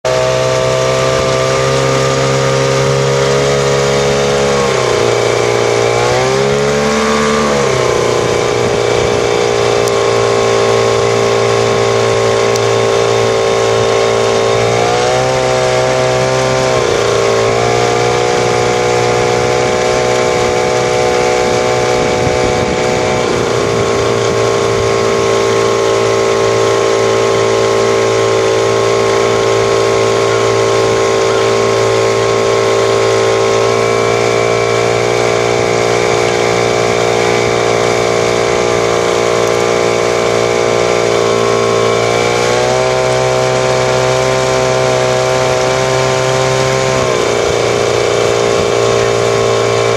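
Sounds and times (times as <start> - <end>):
outboard motor running: 0.0 - 49.9.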